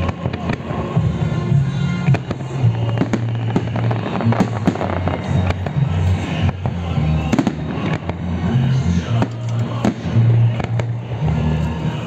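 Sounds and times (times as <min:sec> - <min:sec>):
fireworks sharp bangs: 0:00.0 - 0:11.8
music playing: 0:00.0 - 0:12.0.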